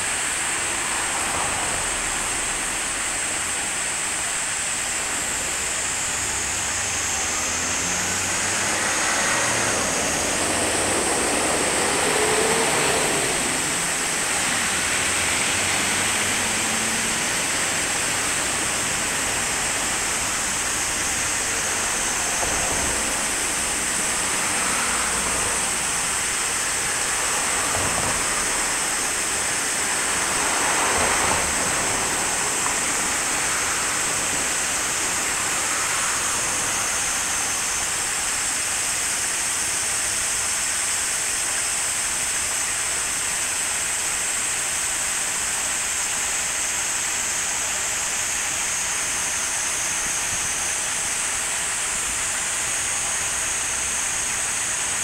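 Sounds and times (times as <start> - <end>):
water rushing over weirs: 0.0 - 55.0.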